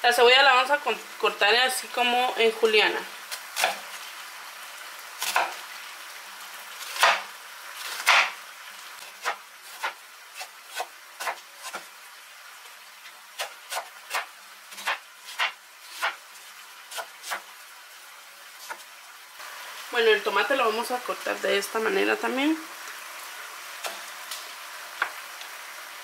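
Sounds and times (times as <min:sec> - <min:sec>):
chicken sizzling in a pot: 0:00.0 - 0:26.0.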